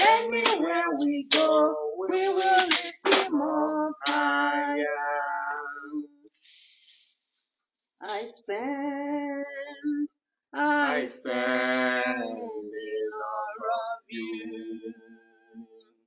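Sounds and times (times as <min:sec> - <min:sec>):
man and woman singing unaccompanied: 0:00.0 - 0:06.3, 0:08.0 - 0:15.8.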